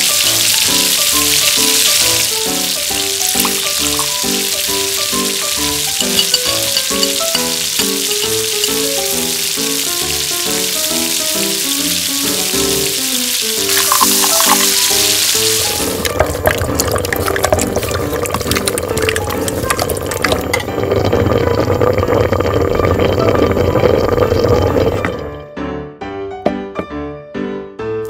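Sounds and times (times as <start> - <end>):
sauce sizzling in a wok: 0.0 - 23.2
background music melody: 0.0 - 28.0.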